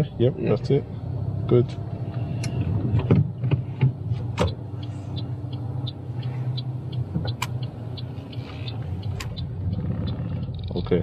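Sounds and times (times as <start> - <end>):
car engine humming: 0.0 - 11.0
turn signal ticking: 1.4 - 11.0.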